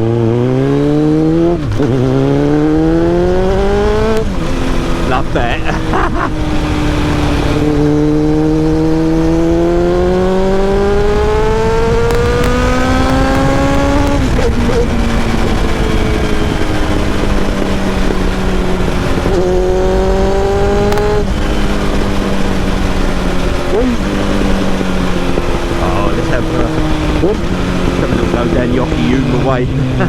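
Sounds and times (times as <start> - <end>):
motorcycle engine revving: 0.0 - 30.0
heavy wind rush: 1.2 - 30.0.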